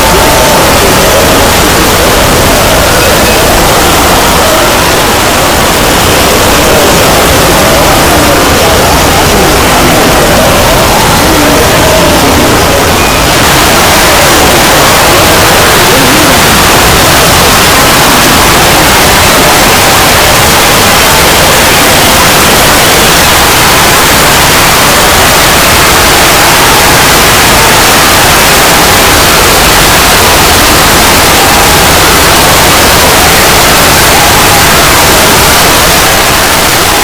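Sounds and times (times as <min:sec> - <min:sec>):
loud distorted static noise: 0:00.0 - 0:37.0.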